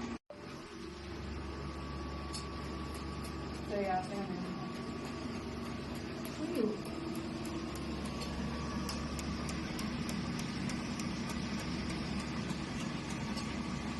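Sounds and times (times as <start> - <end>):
cooling system hum: 0.0 - 13.9
laser firing ticks: 2.3 - 13.9.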